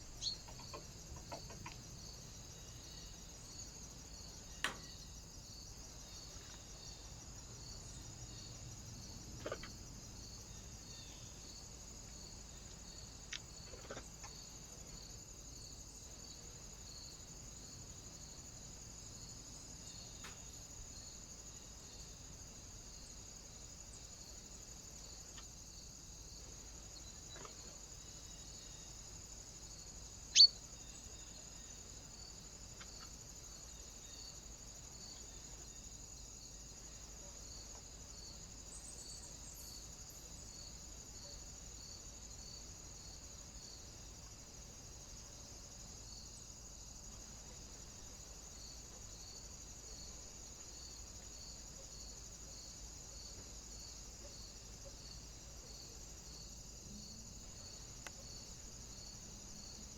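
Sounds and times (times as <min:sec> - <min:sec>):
faint high-pitched hiss: 0:00.0 - 0:59.9.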